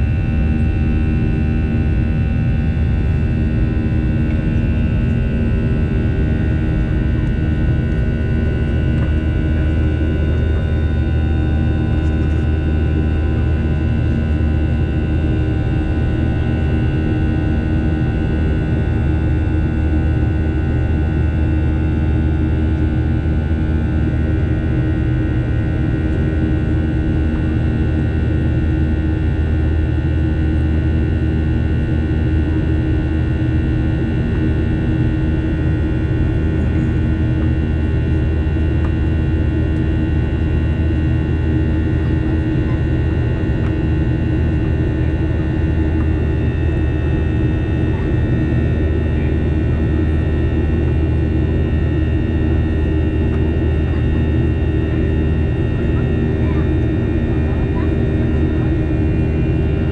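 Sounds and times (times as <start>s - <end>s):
jet engine drone: 0.0s - 59.9s.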